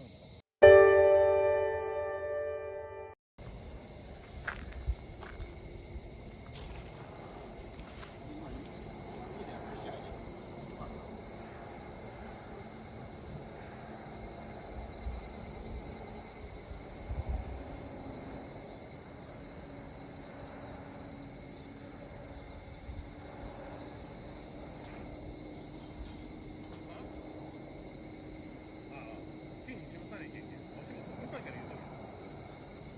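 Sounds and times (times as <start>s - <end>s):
insects chirping in trills: 0.0s - 0.4s, 3.4s - 32.9s.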